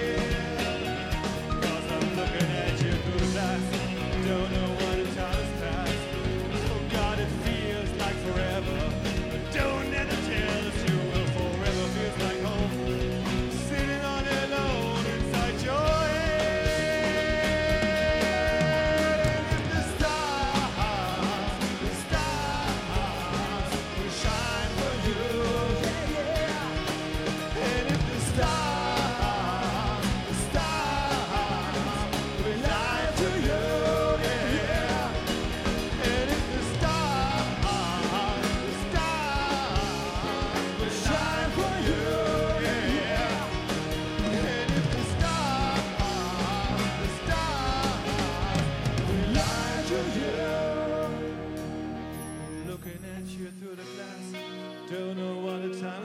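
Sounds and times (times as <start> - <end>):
drums: 0.0 - 55.9
bass guitar: 0.0 - 56.0
electric guitar lead: 0.0 - 56.0.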